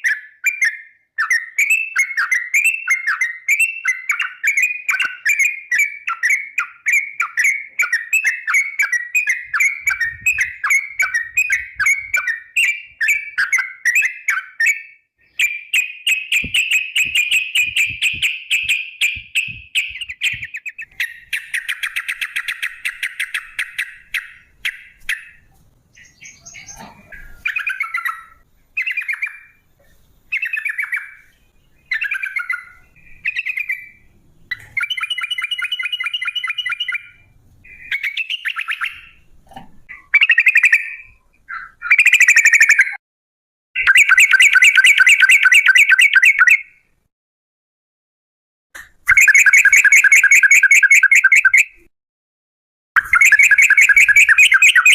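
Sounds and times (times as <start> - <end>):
bird singing with chirps and trills: 0.0 - 43.0, 43.8 - 46.8, 49.0 - 51.8, 53.0 - 54.9.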